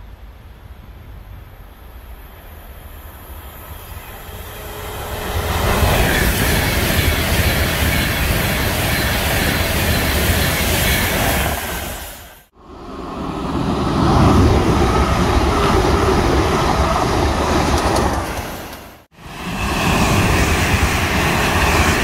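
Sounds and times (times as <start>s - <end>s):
express train passing at speed: 0.0s - 22.0s.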